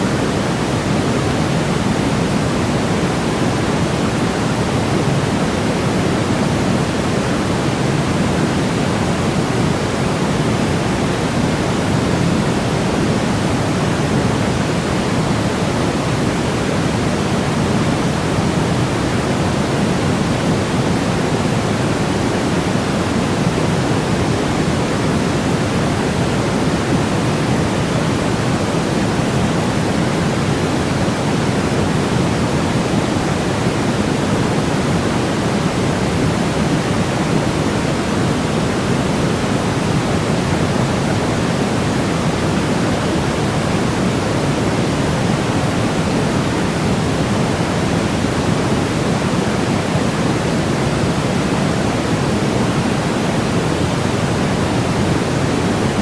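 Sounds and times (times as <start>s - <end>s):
steady low white noise hiss: 0.0s - 56.0s.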